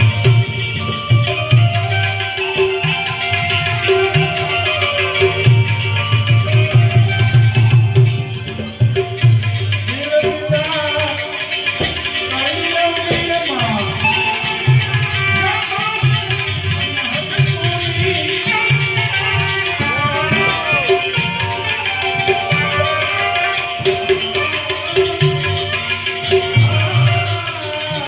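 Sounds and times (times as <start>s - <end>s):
hand drum beat: 0.0s - 28.0s.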